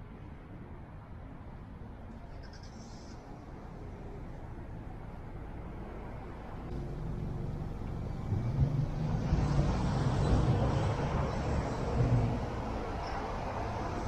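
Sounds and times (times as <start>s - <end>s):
traffic pulling away: 2.1s - 14.0s.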